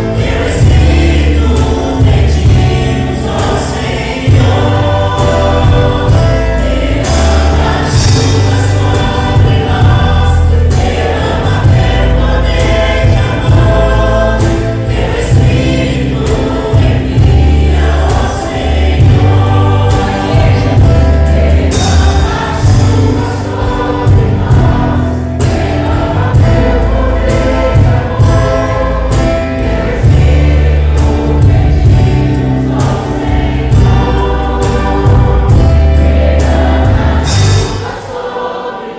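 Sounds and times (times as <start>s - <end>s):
band accompaniment: 0.0s - 38.9s
choir singing gospel song: 0.0s - 38.9s.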